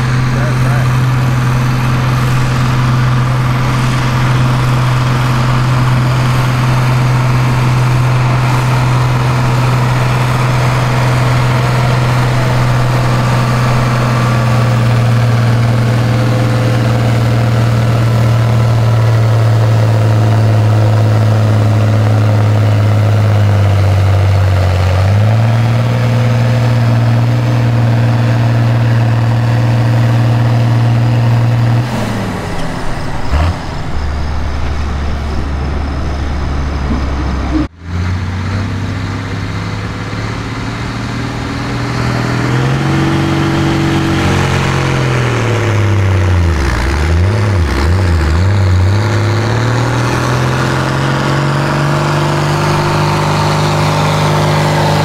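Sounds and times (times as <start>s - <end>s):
diesel tractor engine at high speed: 0.0s - 55.0s.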